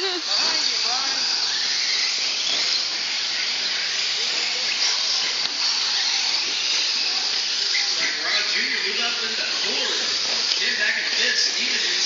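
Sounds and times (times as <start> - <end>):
rc trucks hissing motors and tyres: 0.0 - 12.0.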